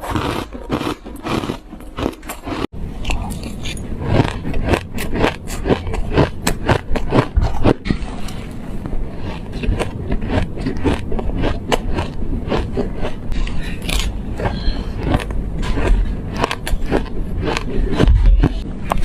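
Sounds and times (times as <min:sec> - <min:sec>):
chewing crunchy ice: 0:00.0 - 0:18.6.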